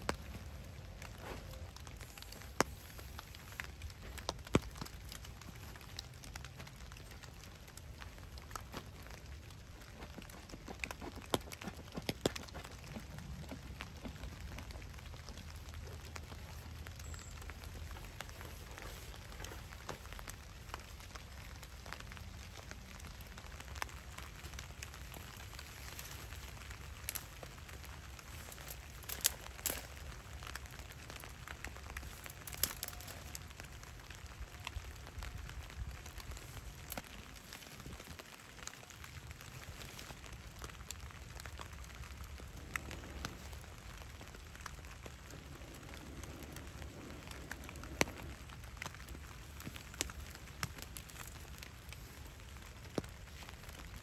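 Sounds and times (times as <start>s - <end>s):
rain falling in woods: 0.0s - 54.0s
sharp raindrop ticks: 0.0s - 54.0s.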